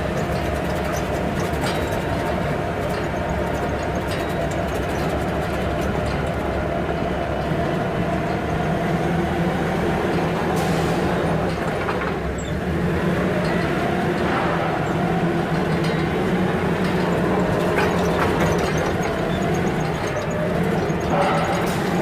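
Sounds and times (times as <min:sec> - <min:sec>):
mechanical rumble with low hum: 0:00.0 - 0:22.0.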